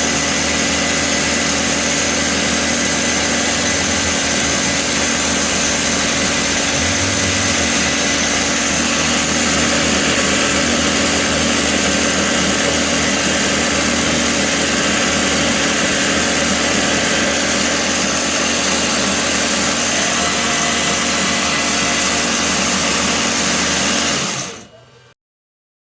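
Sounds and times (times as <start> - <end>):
belt sander running: 0.0 - 24.8.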